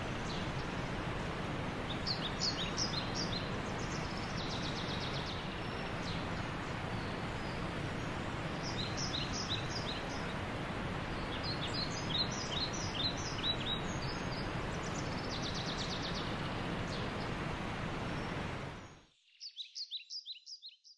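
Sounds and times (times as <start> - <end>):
steady hiss: 0.0 - 18.9
birds chirping: 0.0 - 19.7.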